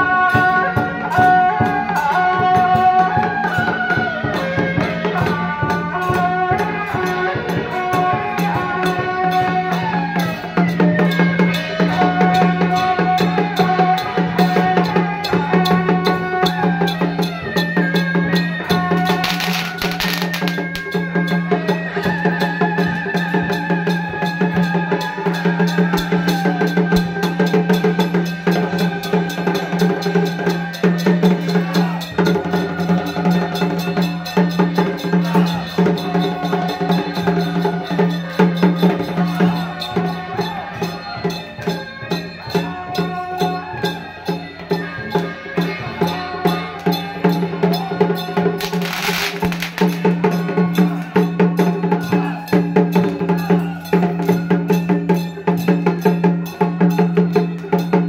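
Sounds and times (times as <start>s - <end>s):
procession music with drums: 0.0s - 58.0s.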